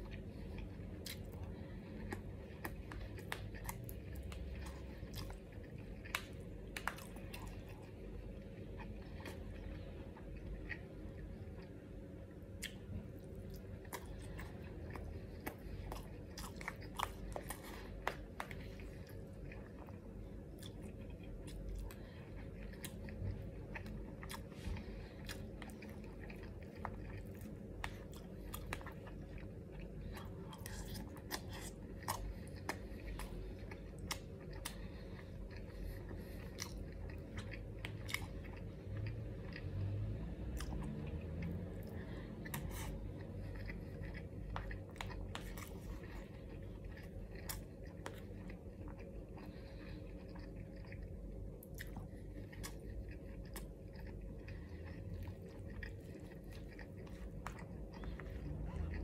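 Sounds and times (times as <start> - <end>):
low hum: 0.0 - 59.0
person chewing: 0.0 - 59.0.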